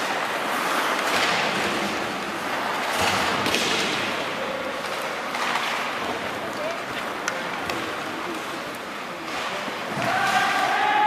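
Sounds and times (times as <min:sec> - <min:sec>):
hockey sticks and puck knocking: 0:00.0 - 0:11.0
skates on ice: 0:00.0 - 0:11.0
arena crowd noise: 0:01.4 - 0:11.0.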